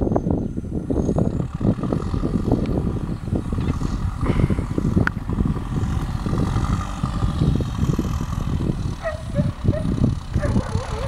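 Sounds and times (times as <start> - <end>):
distant diesel engine working: 0.0 - 11.0
wind buffeting microphone: 0.0 - 11.0.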